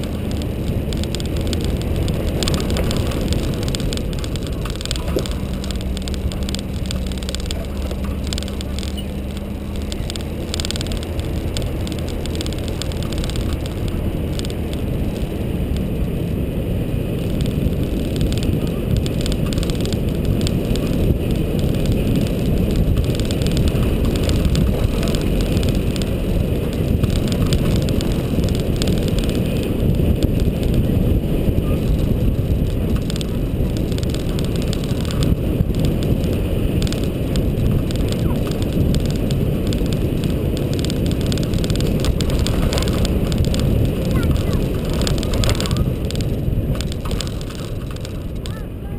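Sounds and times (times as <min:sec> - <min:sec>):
engine and tyres rumbling: 0:00.0 - 0:48.9
wind buffeting microphone: 0:00.0 - 0:48.9.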